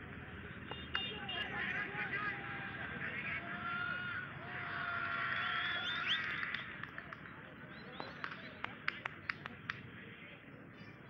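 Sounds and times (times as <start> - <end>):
distant voices shouting: 0.2 - 9.6.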